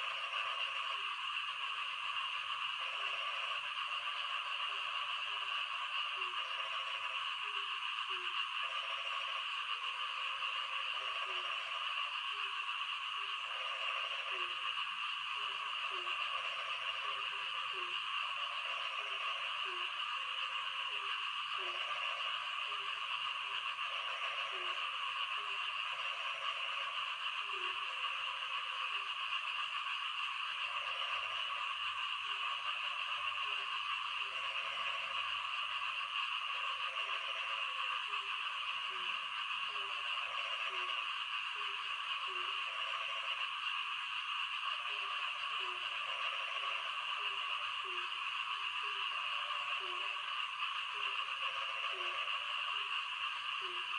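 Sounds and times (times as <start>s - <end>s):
frogs trilling chorus: 0.0s - 53.9s
low frog croaks: 0.0s - 53.9s.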